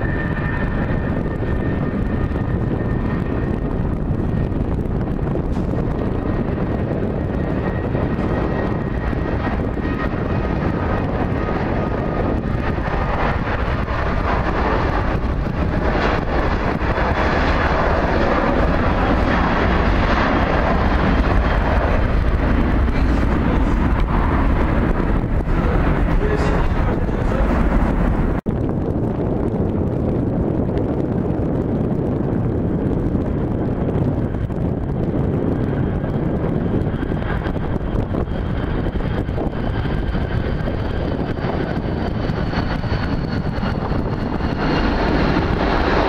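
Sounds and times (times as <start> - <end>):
jet engine roar: 0.0 - 46.0.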